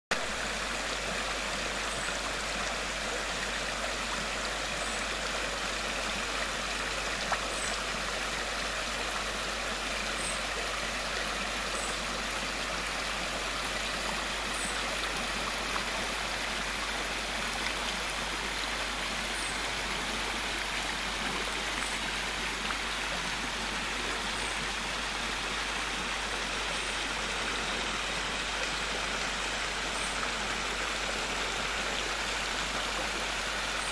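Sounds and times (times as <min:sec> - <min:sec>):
stream rushing over rock: 0:00.1 - 0:33.9.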